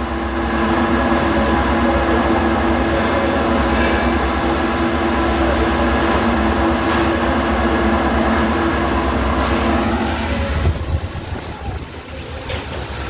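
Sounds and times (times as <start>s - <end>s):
machine drone: 0.0s - 11.9s.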